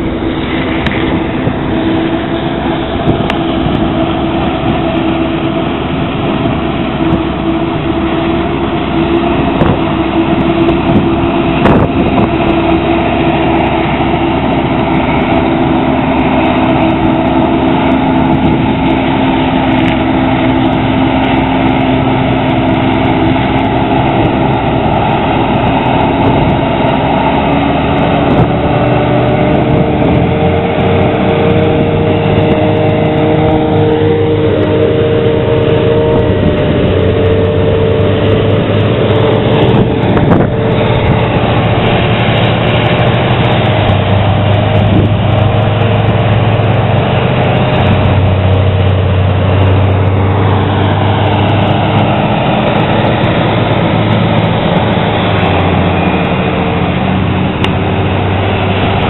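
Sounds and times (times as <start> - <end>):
harvester machinery drone: 0.0 - 59.0.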